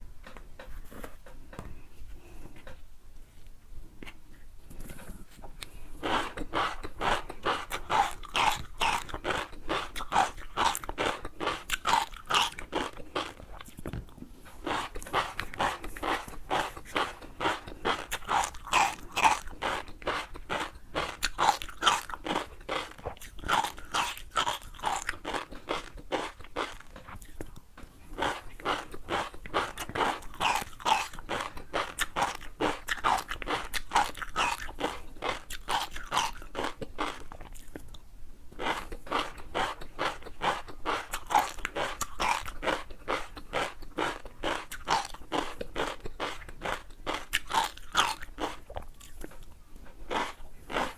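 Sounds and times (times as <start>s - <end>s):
crunchy food being chewed: 4.0s - 50.9s.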